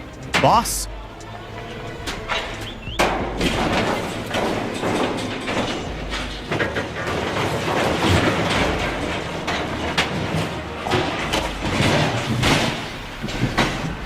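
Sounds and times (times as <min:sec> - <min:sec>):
heavy machinery metallic clattering: 0:00.0 - 0:14.0.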